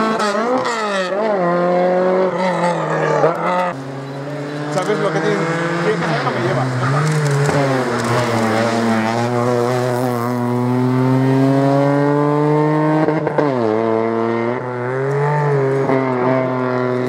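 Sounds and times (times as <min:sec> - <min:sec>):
car engine revving high: 0:00.0 - 0:17.0.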